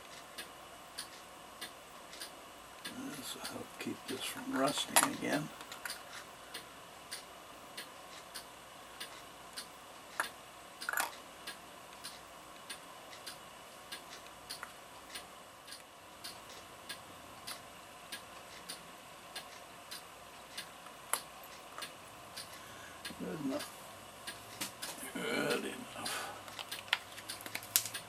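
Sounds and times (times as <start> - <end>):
mechanical clock ticking: 0.0 - 28.0.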